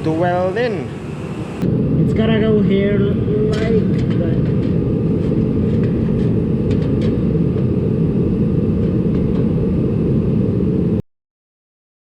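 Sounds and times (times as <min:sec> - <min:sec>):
space heater rumbling: 0:00.0 - 0:11.0.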